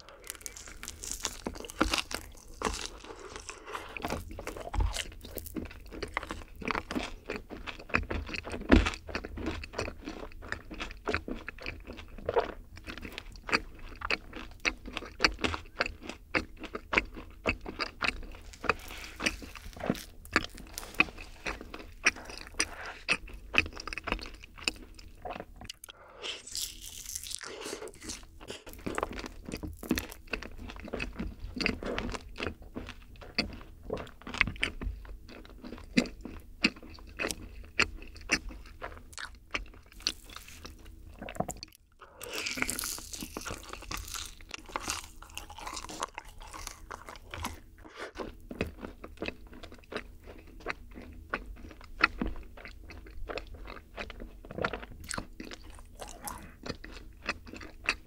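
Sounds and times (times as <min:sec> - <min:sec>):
chewing and crunching cookies: 0:00.0 - 0:58.0.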